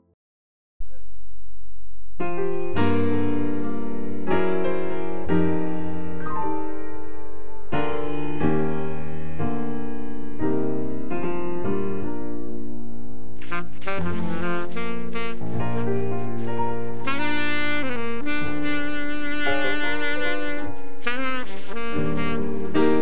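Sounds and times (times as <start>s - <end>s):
slow piano music: 2.2s - 23.0s.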